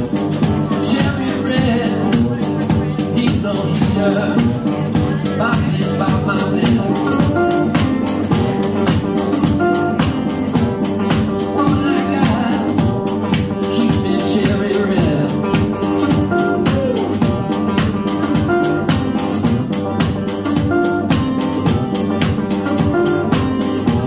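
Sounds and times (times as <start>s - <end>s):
electric-acoustic guitars: 0.0s - 24.0s.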